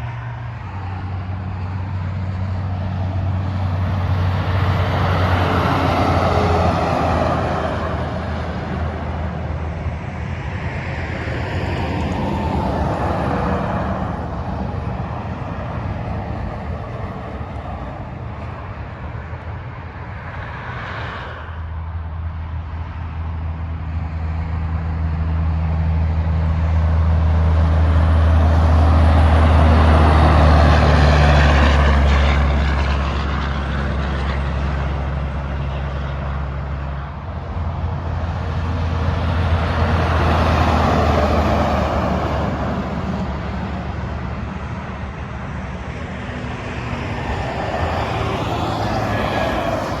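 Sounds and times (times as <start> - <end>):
truck diesel engine droning: 0.0 - 18.2, 24.4 - 50.0
traffic tyre rush: 0.0 - 50.0.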